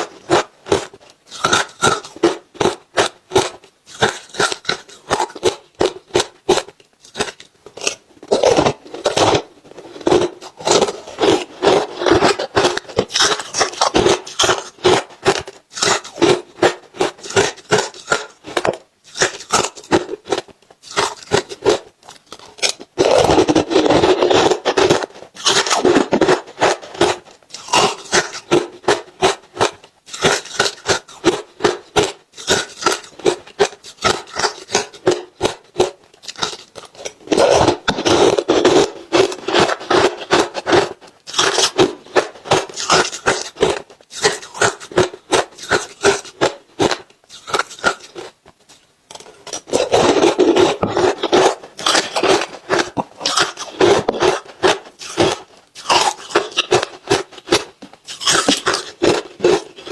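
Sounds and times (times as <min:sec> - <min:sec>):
ice crunching while eaten: 0:00.0 - 0:48.4, 0:49.1 - 0:59.9.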